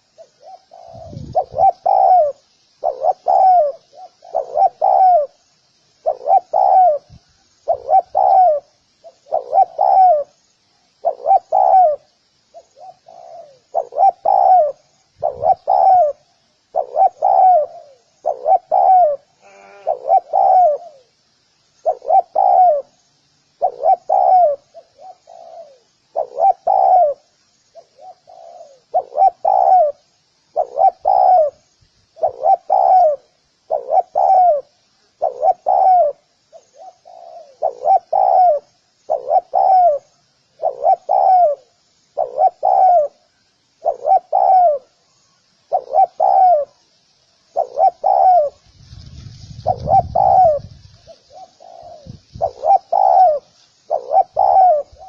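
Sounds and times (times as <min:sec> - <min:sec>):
dove cooing: 0:00.0 - 0:05.4, 0:06.0 - 0:10.4, 0:11.0 - 0:21.1, 0:21.8 - 0:23.0, 0:23.6 - 0:31.6, 0:32.2 - 0:46.8, 0:47.5 - 0:55.0.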